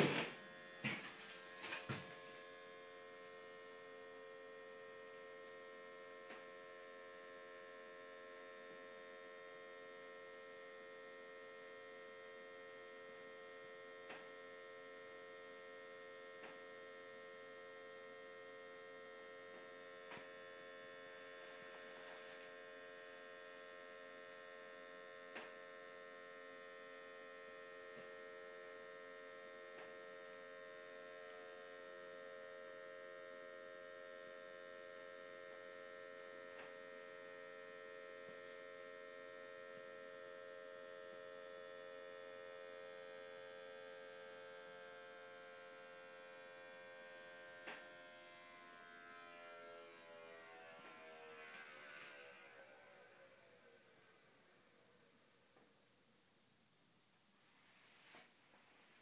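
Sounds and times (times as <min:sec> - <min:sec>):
heater burner humming: 0:00.0 - 0:59.0.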